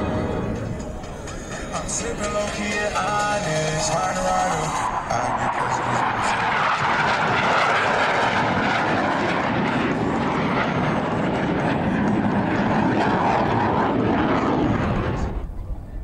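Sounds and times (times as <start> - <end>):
jet engines flying past: 0.0 - 16.0.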